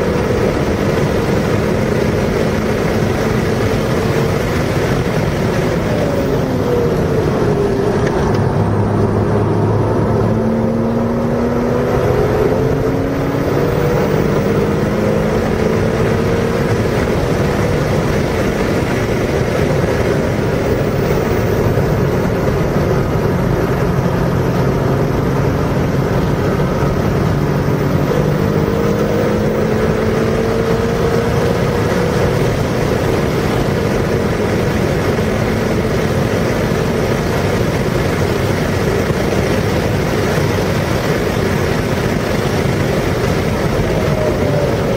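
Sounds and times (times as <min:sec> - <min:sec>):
car engine accelerating: 0:00.0 - 0:44.9
wind and road noise: 0:00.0 - 0:44.9.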